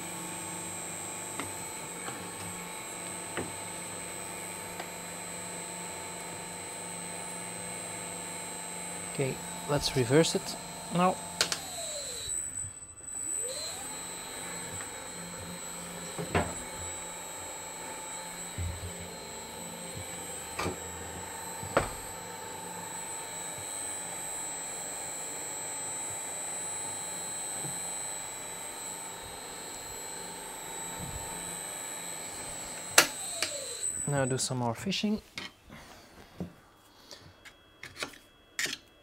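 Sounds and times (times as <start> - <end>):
paper shredder motor whining: 0.0 - 34.6.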